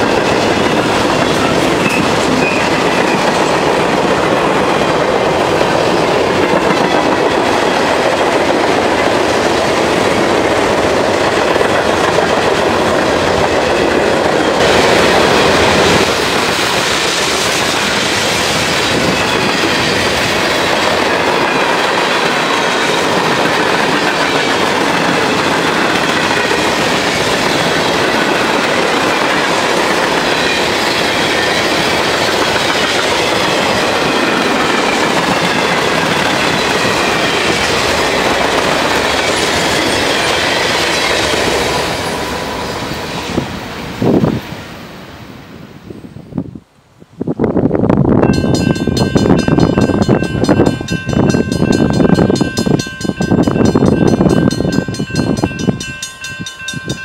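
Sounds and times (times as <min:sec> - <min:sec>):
rumble and clatter of train wheels: 0:00.0 - 0:44.7, 0:47.4 - 0:57.0.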